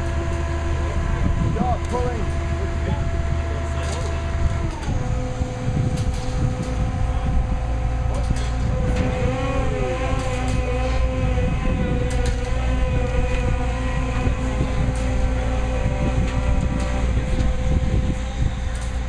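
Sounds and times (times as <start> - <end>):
large diesel engine droning: 0.0 - 19.0.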